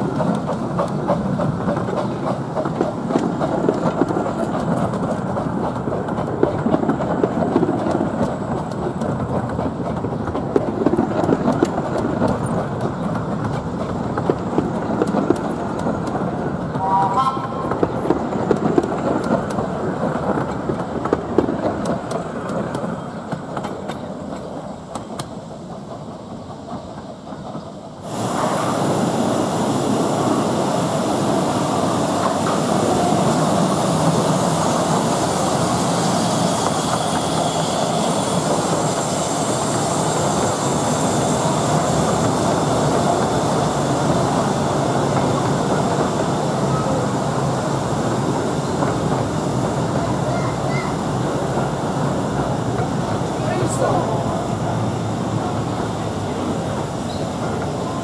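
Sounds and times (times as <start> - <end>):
railway carriages rolling past: 0.0 - 58.0
train carriages passing under roof: 0.0 - 58.0.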